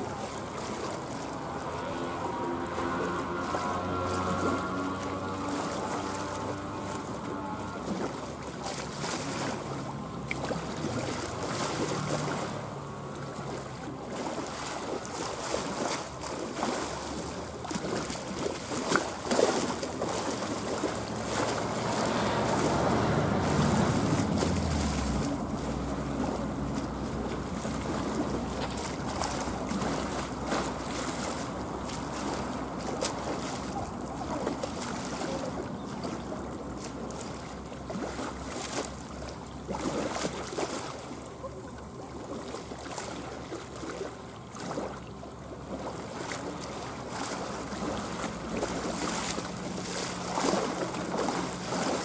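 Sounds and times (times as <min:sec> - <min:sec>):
boat diesel engine rumble: 0:00.0 - 0:52.0.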